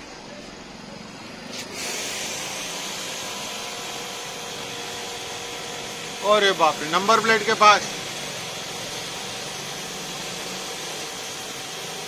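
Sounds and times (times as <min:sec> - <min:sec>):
pump motor humming: 0:00.0 - 0:12.0
water jet spraying with a hiss: 0:01.4 - 0:12.0.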